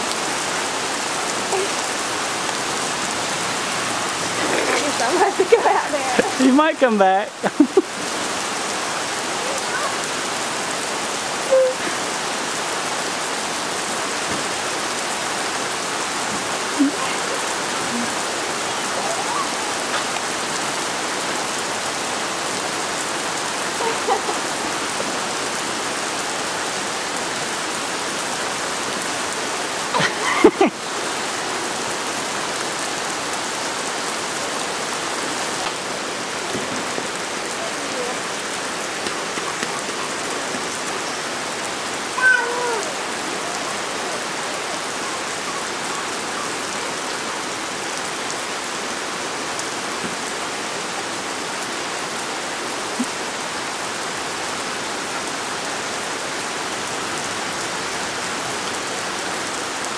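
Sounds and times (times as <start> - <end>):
rain falling on lawn and puddles: 0.0 - 59.9.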